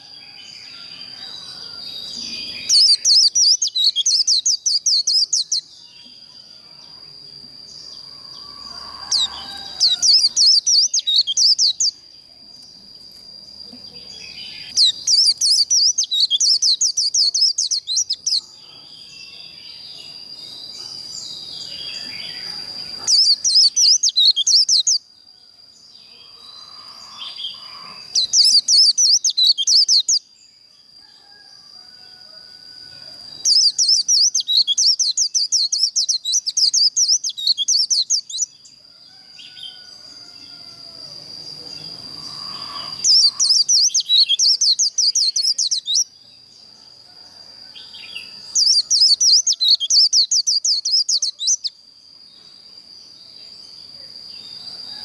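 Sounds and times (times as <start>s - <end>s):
bird twittering song: 0.0s - 25.1s, 25.8s - 30.6s, 33.2s - 38.8s, 41.5s - 46.5s, 47.8s - 51.8s.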